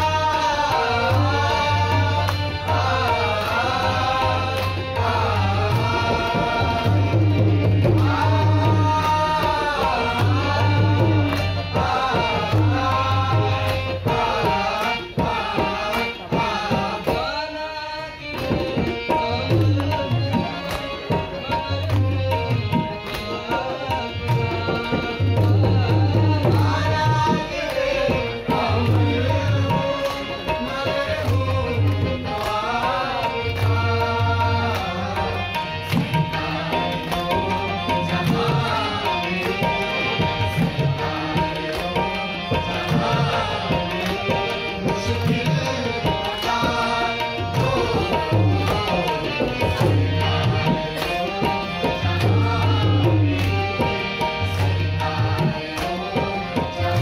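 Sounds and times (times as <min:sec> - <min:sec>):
group of voices singing: 0:00.0 - 0:57.0
harmonium: 0:00.0 - 0:57.0
tabla playing: 0:00.0 - 0:57.0.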